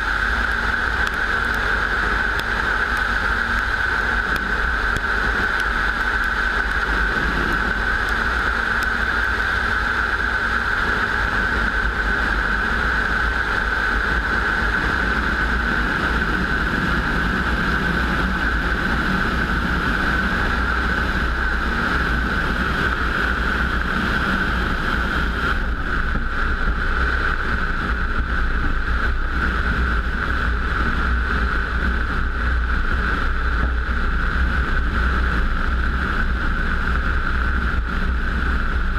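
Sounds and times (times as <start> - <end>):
engine drone: 0.0 - 38.9
wind rumble on microphone: 0.0 - 38.9.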